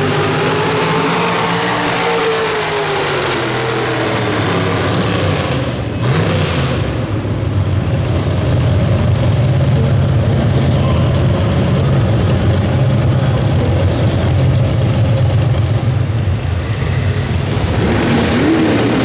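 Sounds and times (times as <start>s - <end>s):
truck engine running loud: 0.0s - 19.0s.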